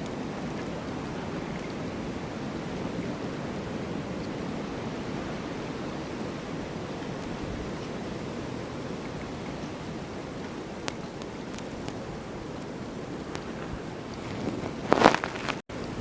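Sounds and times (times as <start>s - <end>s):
snowstorm wind blowing: 0.0s - 16.0s.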